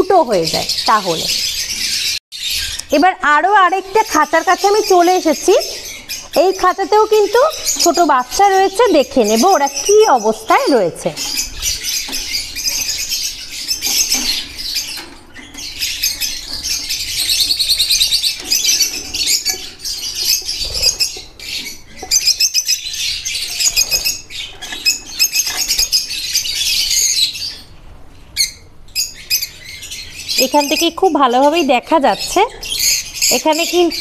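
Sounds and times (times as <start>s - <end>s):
lovebirds chirping and squawking: 0.0s - 34.0s.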